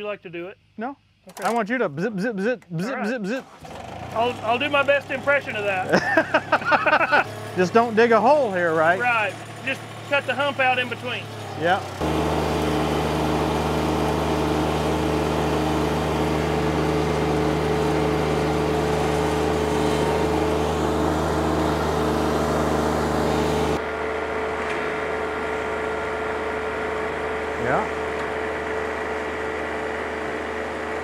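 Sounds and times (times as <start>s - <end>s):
tractor engine running: 1.3s - 31.0s.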